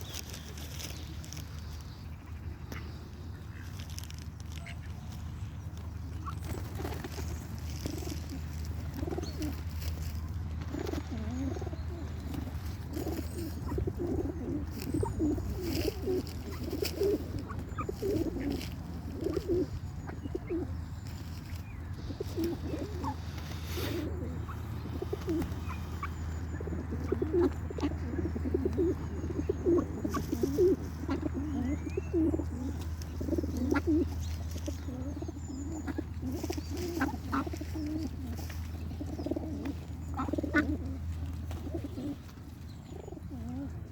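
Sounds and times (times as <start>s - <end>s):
birds giving low calls: 0.0s - 43.9s.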